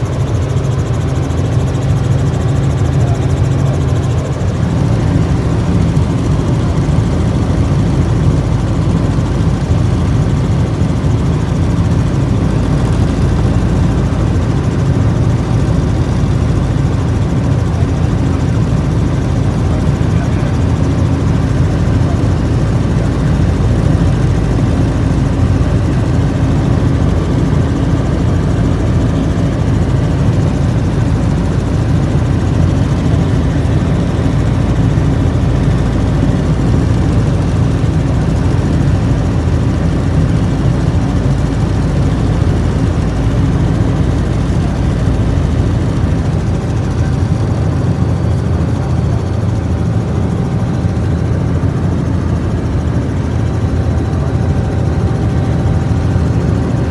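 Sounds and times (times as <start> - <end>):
helicopter engine and rotor drone: 0.0 - 56.9.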